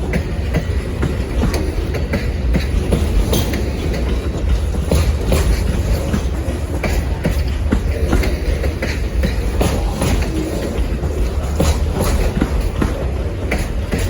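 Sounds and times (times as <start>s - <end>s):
train cars rumbling past: 0.0s - 14.0s
wheel clicks over rails: 0.0s - 14.0s.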